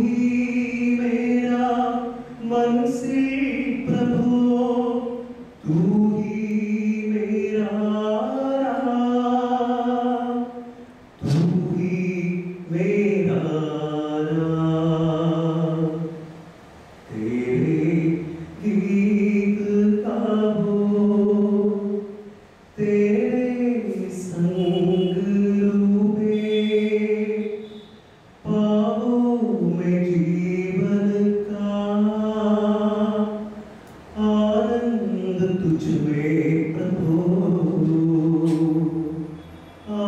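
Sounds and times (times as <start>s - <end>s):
man singing unaccompanied: 0.0s - 40.0s.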